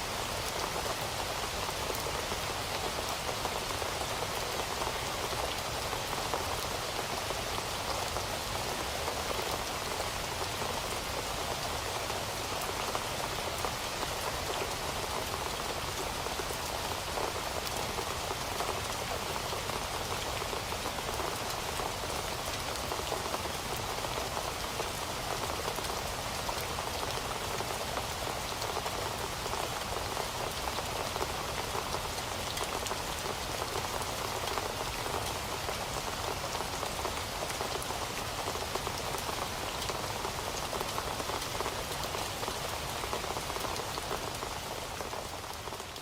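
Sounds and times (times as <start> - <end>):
heavy rain on hard surface: 0.0 - 46.0.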